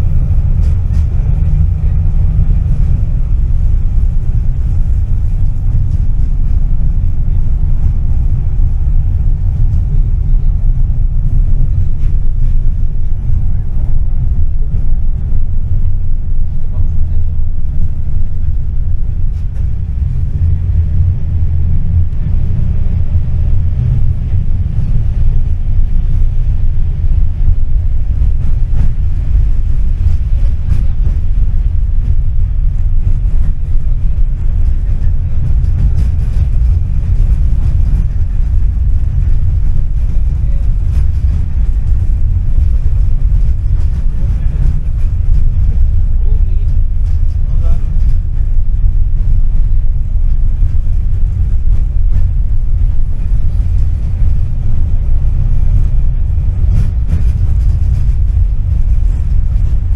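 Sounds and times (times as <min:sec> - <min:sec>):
faint rattles: 0:00.0 - 0:59.9
tram rumbling: 0:00.0 - 0:59.9.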